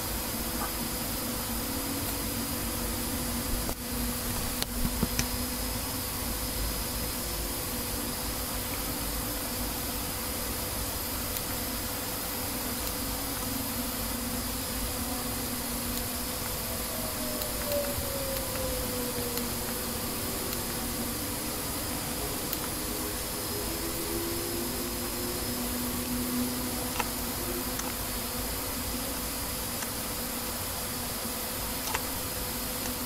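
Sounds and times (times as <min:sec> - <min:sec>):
electrical hum and hiss: 0:00.0 - 0:33.0.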